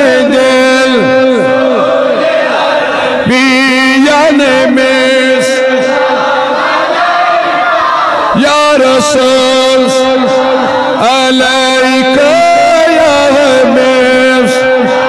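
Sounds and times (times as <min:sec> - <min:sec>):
man chanting into microphone: 0:00.0 - 0:02.2, 0:03.1 - 0:06.2, 0:08.2 - 0:15.0
group of men chanting: 0:00.0 - 0:15.0.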